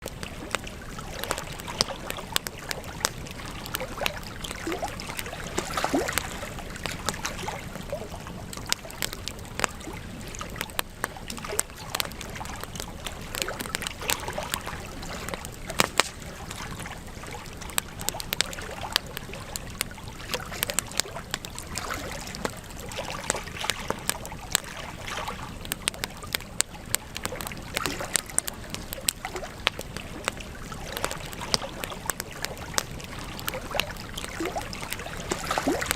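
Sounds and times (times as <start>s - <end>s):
soft rush of flame: 0.0s - 35.9s
wood fire crackling: 0.0s - 35.9s.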